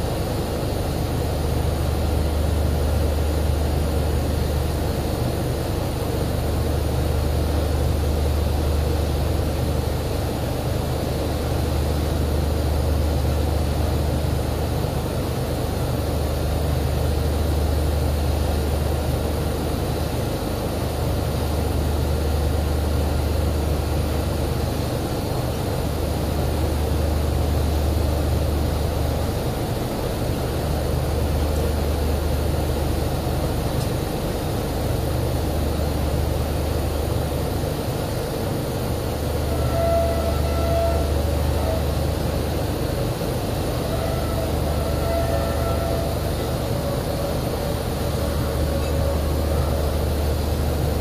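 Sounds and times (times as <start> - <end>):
drilling rig engines droning: 0.0 - 51.0.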